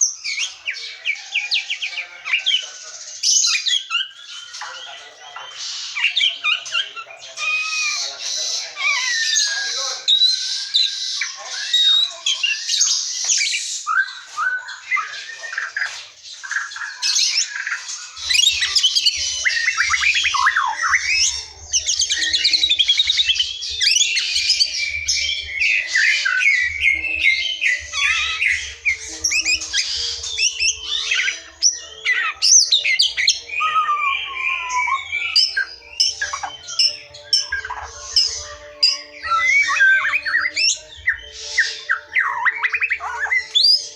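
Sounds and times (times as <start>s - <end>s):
bird singing whistles and trills: 0.0s - 43.9s.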